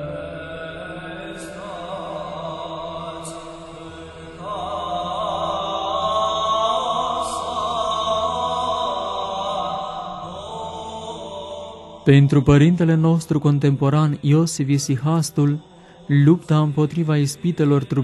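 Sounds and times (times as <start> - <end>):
slow sung chant: 0.0 - 18.0.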